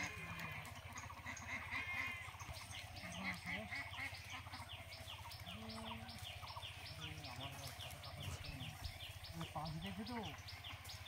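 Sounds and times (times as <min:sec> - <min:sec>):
waterfowl calls: 0:00.0 - 0:11.0.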